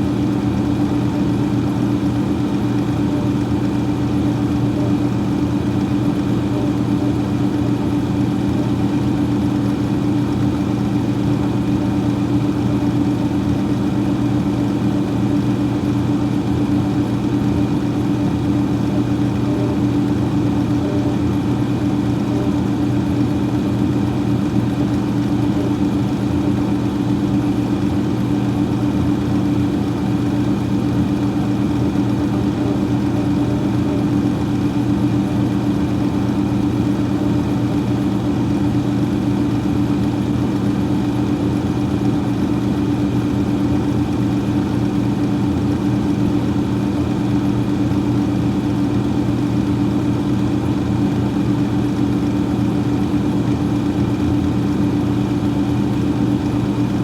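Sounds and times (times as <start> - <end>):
freezer fan humming: 0.0 - 57.0.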